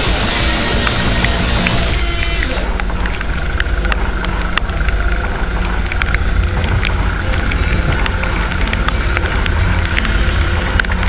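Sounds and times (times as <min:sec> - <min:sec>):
raindrops ticking on camera: 0:00.0 - 0:11.0
wind rumble: 0:00.0 - 0:11.0.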